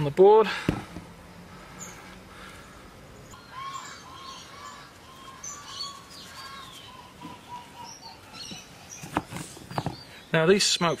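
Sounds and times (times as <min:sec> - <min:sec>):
birds calling: 0:00.0 - 0:11.0
higher bird chirps: 0:01.5 - 0:10.8.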